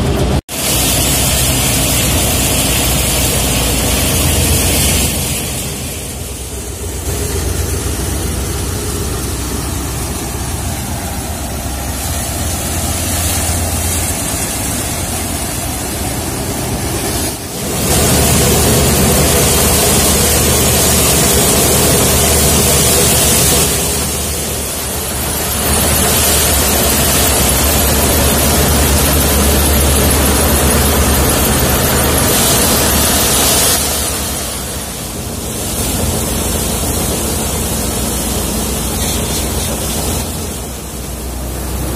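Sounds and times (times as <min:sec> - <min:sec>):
loud rushing noise: 0:00.0 - 0:41.9
threshing machine hum: 0:00.0 - 0:41.9.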